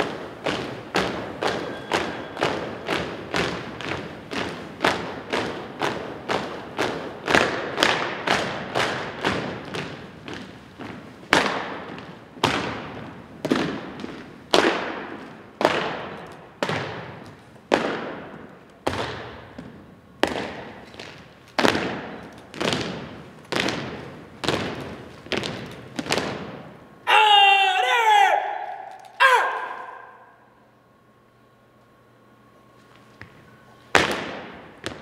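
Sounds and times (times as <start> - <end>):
shoes stomping on wooden floor: 0.0 - 26.6, 33.2 - 35.0.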